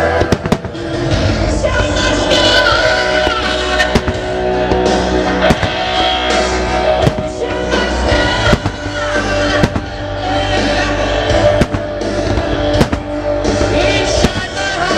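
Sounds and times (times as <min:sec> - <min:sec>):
fireworks bursting: 0:00.0 - 0:14.9
musical theatre music over sound system: 0:00.0 - 0:14.9.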